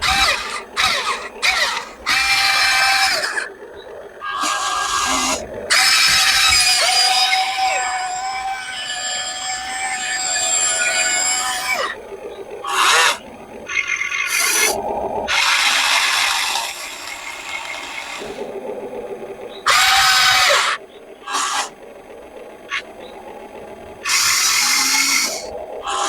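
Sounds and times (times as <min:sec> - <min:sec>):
small electric motors whirring: 0:00.0 - 0:18.6, 0:19.6 - 0:26.0.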